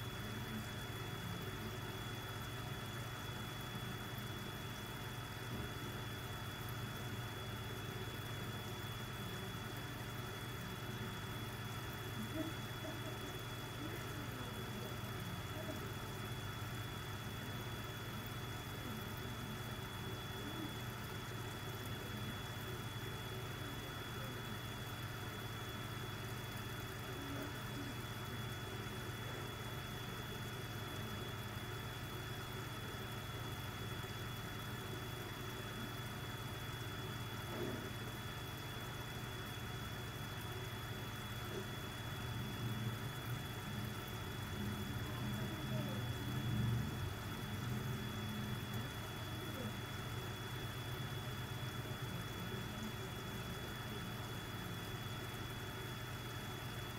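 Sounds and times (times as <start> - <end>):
air pump humming: 0.0 - 56.9.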